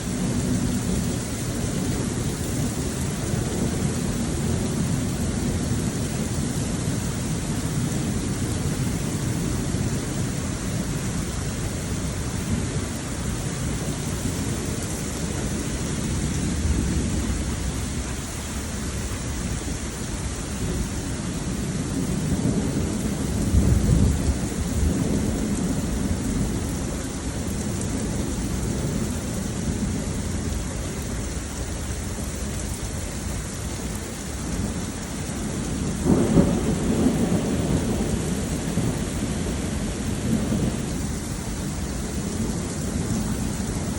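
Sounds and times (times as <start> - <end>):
heavy rain falling: 0.0 - 43.9
low thunder rumbling: 0.0 - 43.9.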